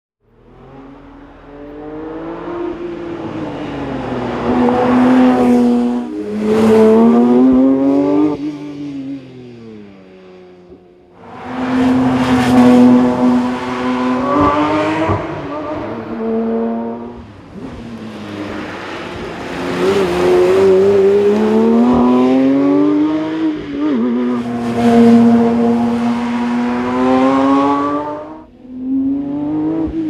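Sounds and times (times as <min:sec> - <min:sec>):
sports car accelerating past: 0:00.4 - 0:30.0.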